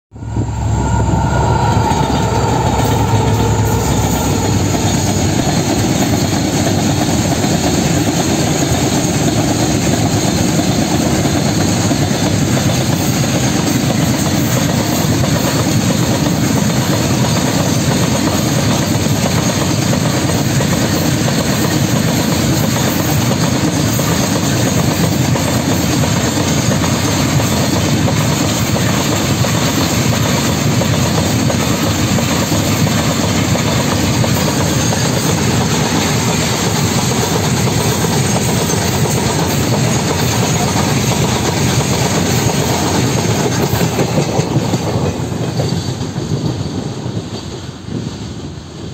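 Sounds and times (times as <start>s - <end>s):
diesel locomotive engine: 0.1s - 48.9s
steel wheels clattering on rail: 0.2s - 48.9s.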